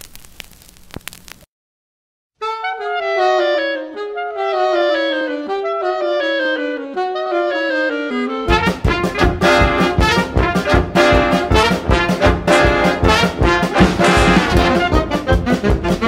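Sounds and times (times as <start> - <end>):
brass-led jazz band: 2.4 - 16.0.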